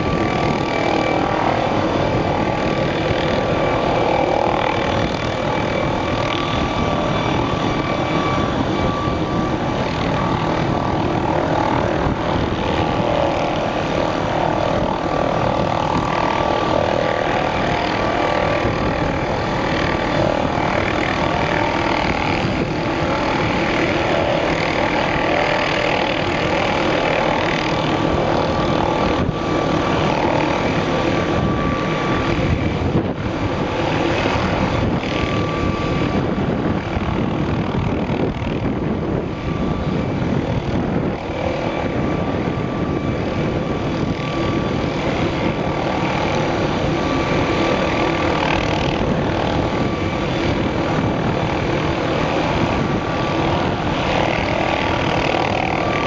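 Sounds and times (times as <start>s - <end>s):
helicopter turbine whine: 0.0s - 56.0s.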